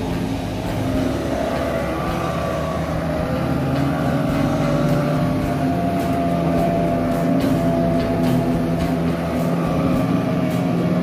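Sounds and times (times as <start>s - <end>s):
speedboat outboard motors: 0.0s - 11.0s.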